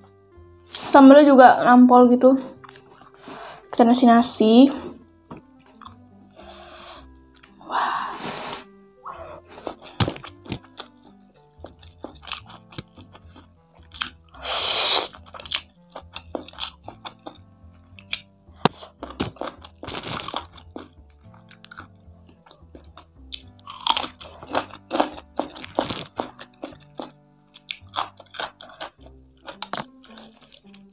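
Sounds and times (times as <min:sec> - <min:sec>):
quiet background music: 0:00.0 - 0:30.9
chewing and crunching fried food: 0:02.5 - 0:03.7, 0:04.9 - 0:07.6, 0:08.4 - 0:30.9.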